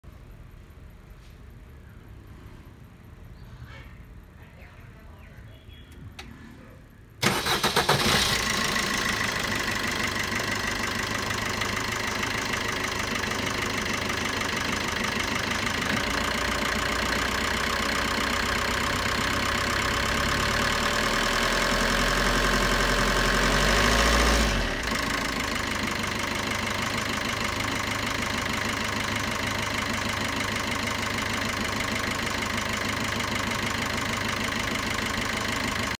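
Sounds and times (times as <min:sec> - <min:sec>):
diesel engine starting and idling: 0:05.7 - 0:36.0.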